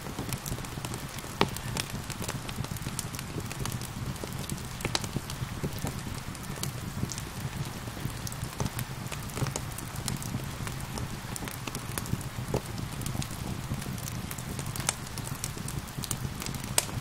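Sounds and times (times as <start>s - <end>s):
rain hiss: 0.0s - 17.0s
sharp pops of fire: 0.0s - 17.0s
wood fire crackling: 0.0s - 17.0s.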